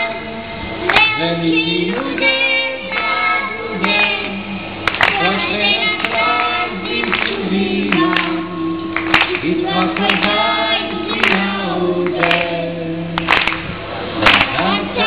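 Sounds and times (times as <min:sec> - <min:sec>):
children singing: 0:00.9 - 0:12.8, 0:14.1 - 0:15.0.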